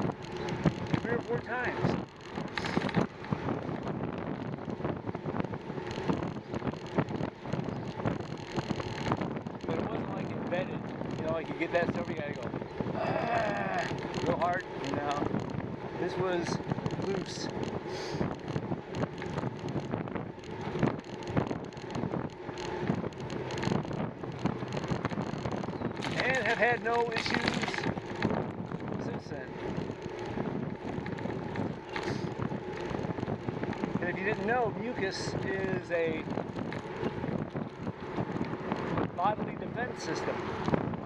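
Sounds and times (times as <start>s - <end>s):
bicycle clicks and rattles: 0.0s - 41.0s
wind buffeting microphone: 0.0s - 41.0s.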